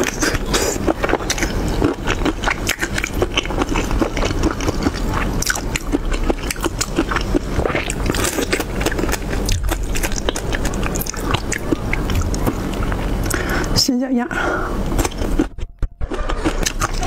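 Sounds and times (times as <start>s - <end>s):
chewing mouth sounds: 0.0s - 13.8s, 14.8s - 17.0s.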